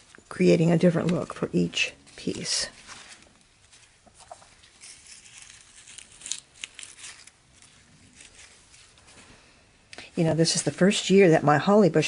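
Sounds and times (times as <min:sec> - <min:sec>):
rustling and crackling of sprigs: 0:00.0 - 0:11.6.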